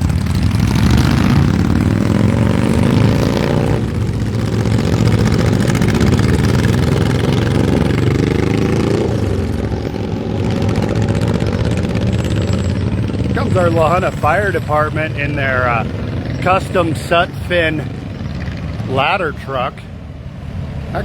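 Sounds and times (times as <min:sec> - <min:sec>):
engine accelerating through gears: 0:00.0 - 0:19.6.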